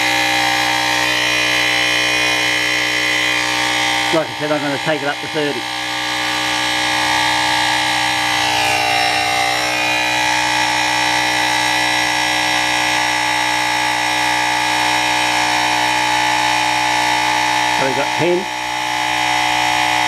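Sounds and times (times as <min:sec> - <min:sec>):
tyre inflator motor buzzing: 0:00.0 - 0:20.0.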